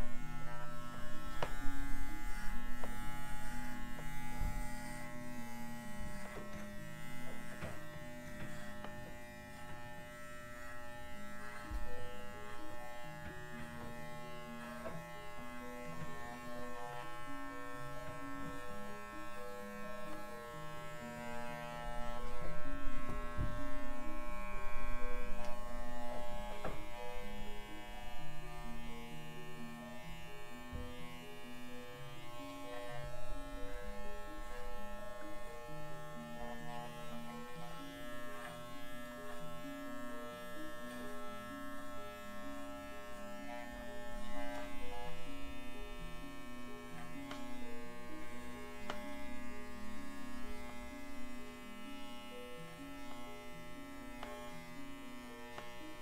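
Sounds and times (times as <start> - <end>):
background music: 0.0 - 56.0
electric clippers buzzing: 0.0 - 56.0.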